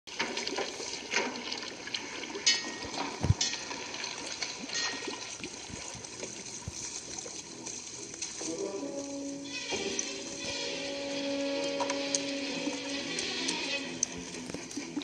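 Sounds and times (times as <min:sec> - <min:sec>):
sharp splashes: 0:00.1 - 0:15.0
water sloshing around a boat: 0:00.1 - 0:15.0.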